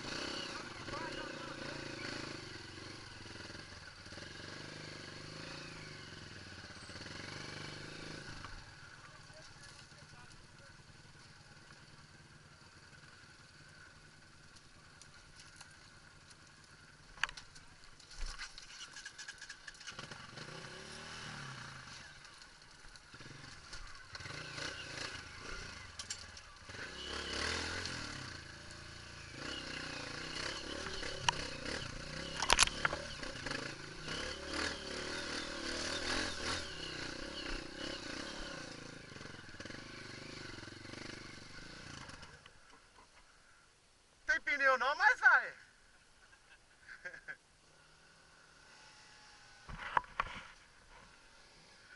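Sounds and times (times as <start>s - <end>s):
dirt bike engine revving: 0.0s - 16.2s, 18.7s - 42.4s, 47.0s - 50.3s.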